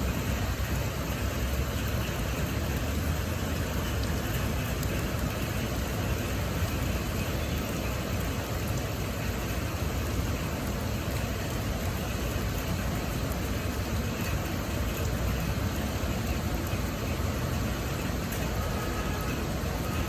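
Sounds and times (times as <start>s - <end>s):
heavy rain in strong wind: 0.0s - 20.0s.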